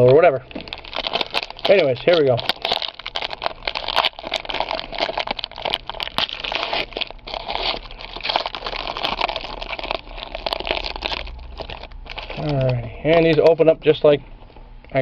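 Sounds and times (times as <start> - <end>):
plastic wrapper crinkling and tearing: 0.0 - 14.1.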